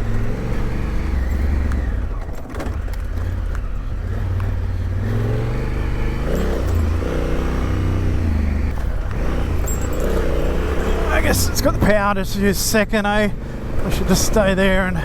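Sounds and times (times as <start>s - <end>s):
motorcycle engine revving under load: 0.0s - 12.0s, 13.3s - 14.8s.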